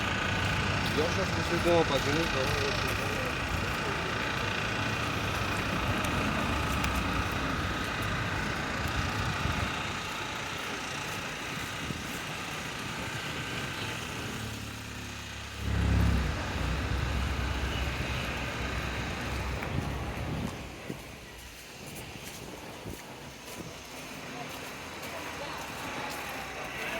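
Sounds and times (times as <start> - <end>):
street traffic: 0.0 - 26.9
vehicle engine rumble: 0.0 - 26.9.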